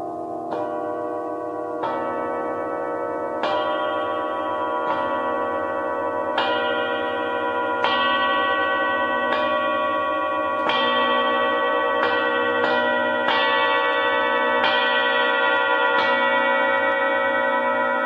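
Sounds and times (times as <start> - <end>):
singing bowls struck with mallets: 0.0 - 18.0.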